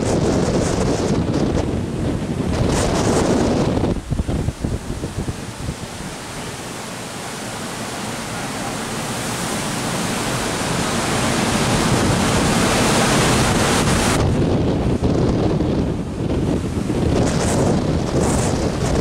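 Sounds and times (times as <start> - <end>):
rough sea churning: 0.0 - 19.0
storm wind: 0.0 - 19.0.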